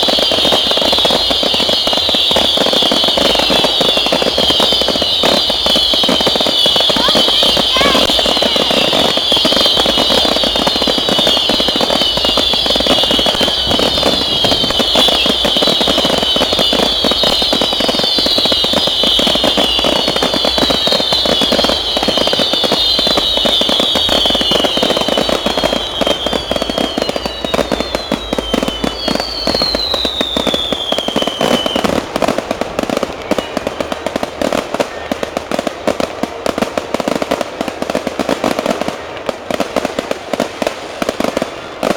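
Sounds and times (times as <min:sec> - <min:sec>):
firework whistles falling in pitch: 0:00.0 - 0:36.1
fireworks crackling and popping: 0:00.0 - 0:41.9.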